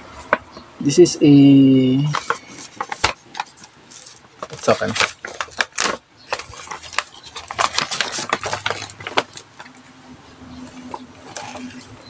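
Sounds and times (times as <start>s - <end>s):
paper bag rustling and crinkling: 1.9s - 12.0s.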